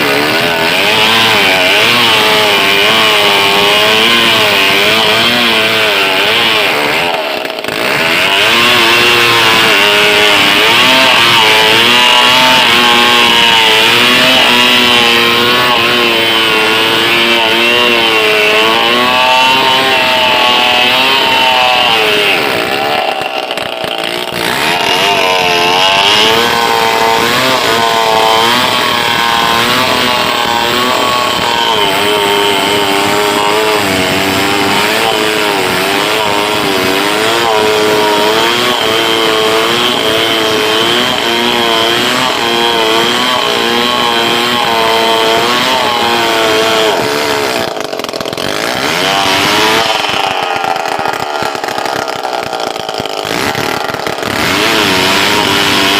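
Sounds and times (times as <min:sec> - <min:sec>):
chainsaw sawing log: 0:00.0 - 0:55.9.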